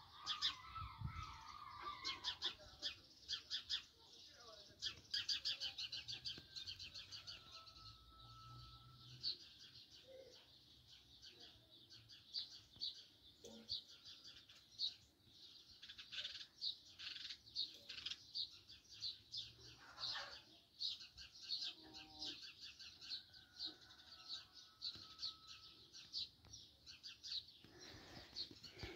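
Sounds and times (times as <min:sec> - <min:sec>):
sparrow chirping: 0:00.1 - 0:28.9.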